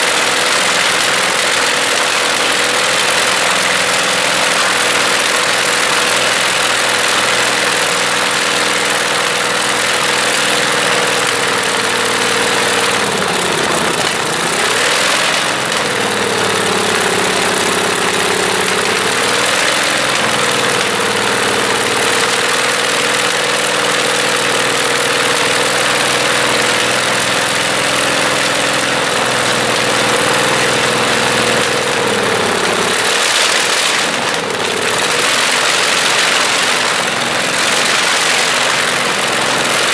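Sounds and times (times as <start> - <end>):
radial aero engine running: 0.0 - 39.9.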